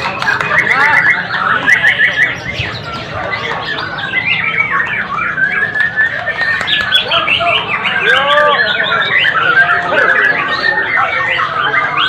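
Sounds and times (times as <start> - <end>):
songbirds singing and chirping: 0.0 - 12.0.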